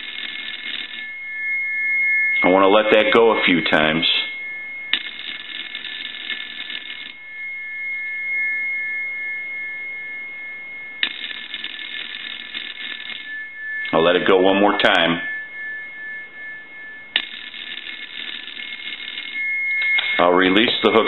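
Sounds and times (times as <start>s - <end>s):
telephone bell ringing: 0.0s - 14.1s, 17.0s - 20.3s
steady high tone: 0.0s - 21.0s.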